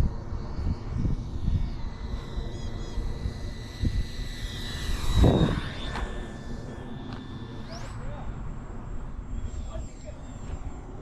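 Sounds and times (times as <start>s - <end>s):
rc jet fan whining: 0.0s - 11.0s.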